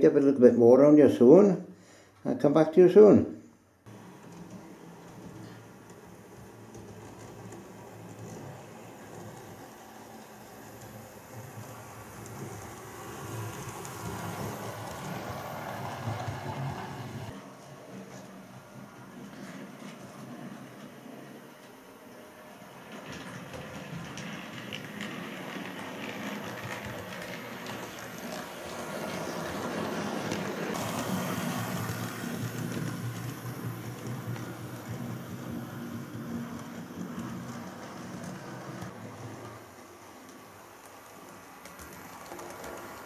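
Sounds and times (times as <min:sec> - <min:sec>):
model train rumbling on track: 0:03.9 - 0:17.4, 0:18.4 - 0:43.0.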